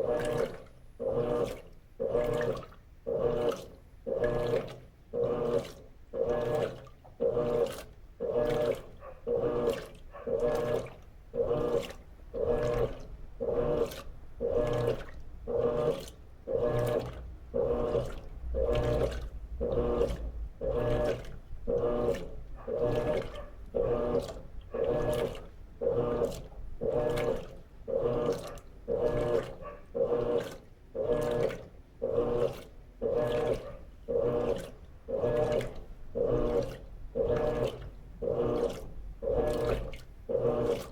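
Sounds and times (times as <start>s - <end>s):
washing machine motor hum: 0.0s - 40.9s
water sloshing: 0.0s - 40.9s.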